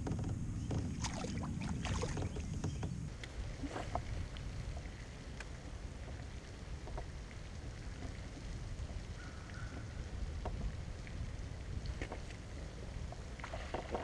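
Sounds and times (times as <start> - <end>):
water splashing against kayak: 0.0 - 14.0
wind rumble on microphone: 0.0 - 14.0.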